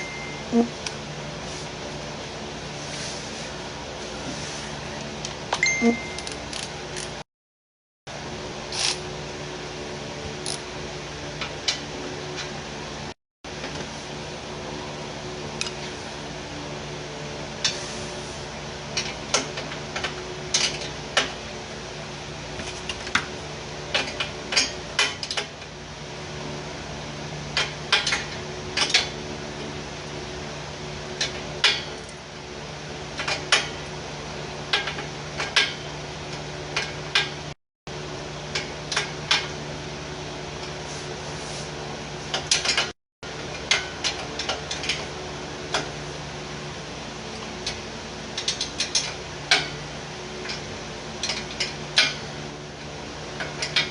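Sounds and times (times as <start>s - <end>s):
mechanical hum: 0.0s - 7.3s, 8.1s - 53.9s.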